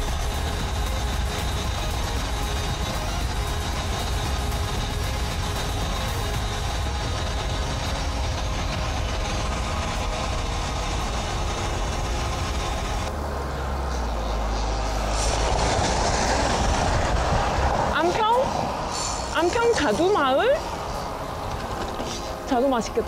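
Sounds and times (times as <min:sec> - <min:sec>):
bike road noise: 0:00.0 - 0:23.0
passing vehicle: 0:00.0 - 0:23.0.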